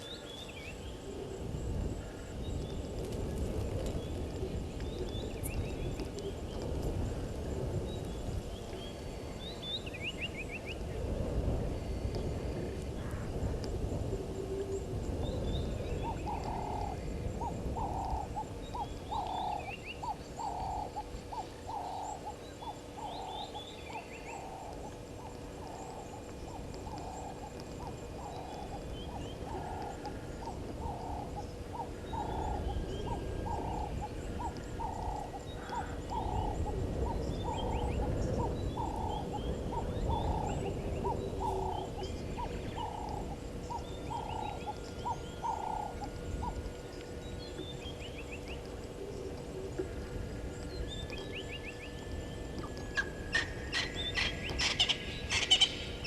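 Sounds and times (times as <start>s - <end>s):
low rumble of wind: 0.0s - 56.0s.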